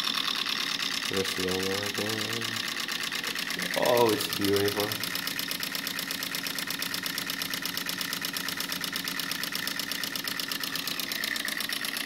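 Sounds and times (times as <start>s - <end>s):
pulse motor fast ticking: 0.0s - 12.0s
steady motor hum: 0.0s - 12.0s.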